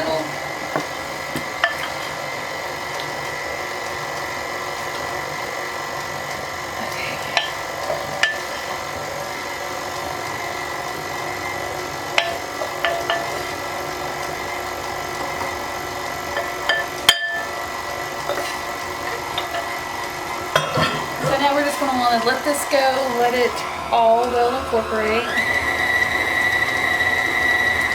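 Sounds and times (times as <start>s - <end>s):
stand mixer motor running: 0.0s - 27.9s.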